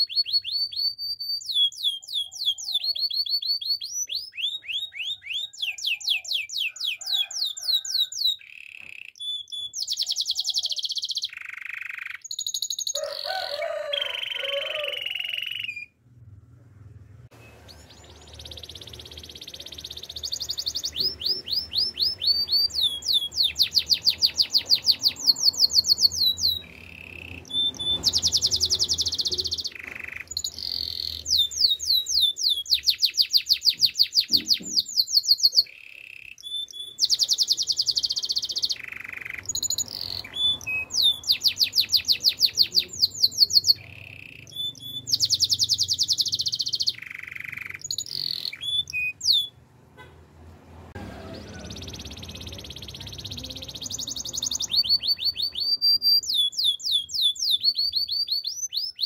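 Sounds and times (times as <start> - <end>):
canary trilling song: 0.0 - 16.0, 17.3 - 59.0.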